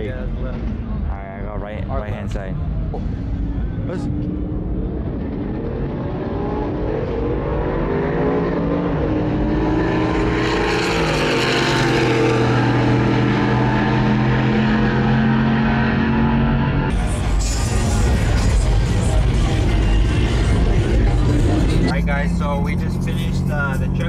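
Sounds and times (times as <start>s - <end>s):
truck engines accelerating hard: 0.0s - 24.0s.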